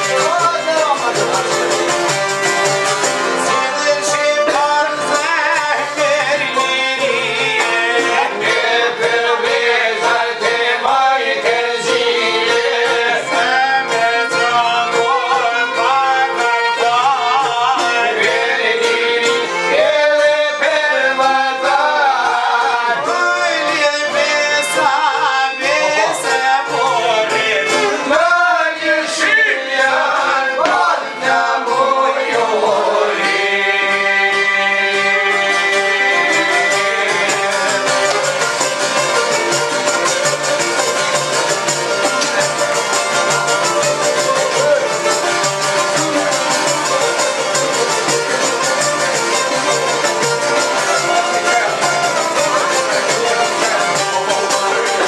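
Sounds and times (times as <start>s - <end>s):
man singing melismatically: 0.0s - 55.0s
plucked lutes playing: 0.0s - 55.0s.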